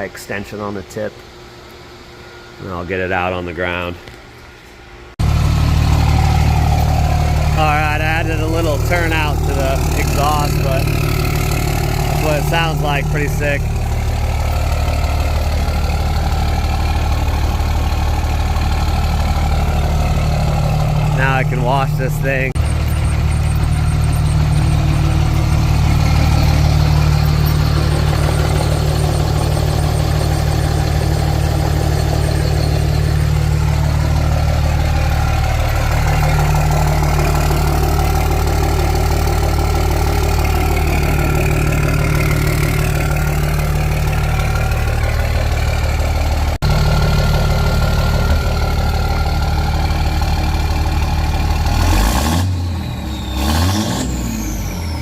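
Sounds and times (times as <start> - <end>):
diesel engine idling: 4.9 - 55.0.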